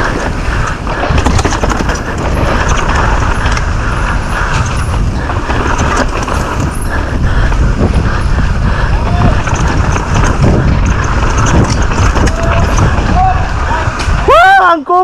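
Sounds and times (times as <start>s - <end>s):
mountain bike rattling: 0.0s - 15.0s
wind rushing over microphone: 0.0s - 15.0s.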